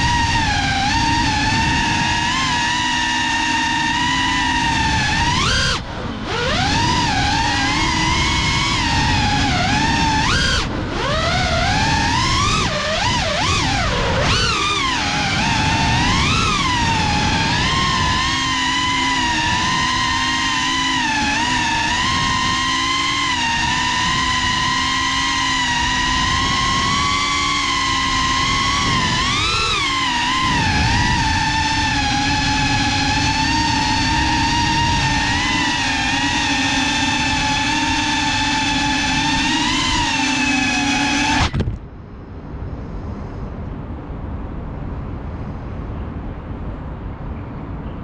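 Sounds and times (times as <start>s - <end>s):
drone motors whining: 0.0s - 41.8s.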